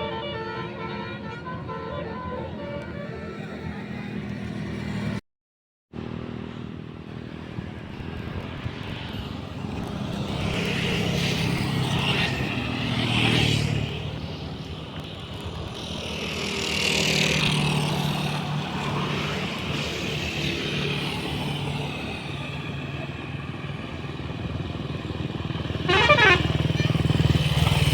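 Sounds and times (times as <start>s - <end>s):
vehicles driving past: 0.0s - 5.2s, 6.0s - 27.9s.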